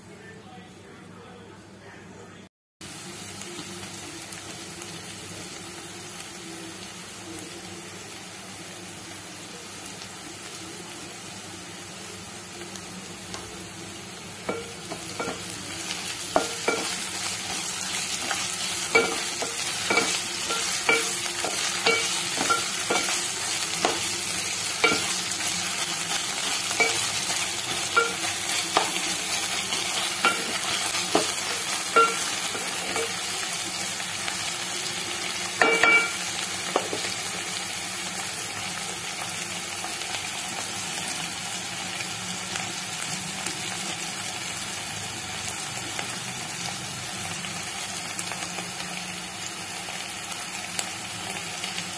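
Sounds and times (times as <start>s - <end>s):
food sizzling in oil: 2.8s - 51.9s.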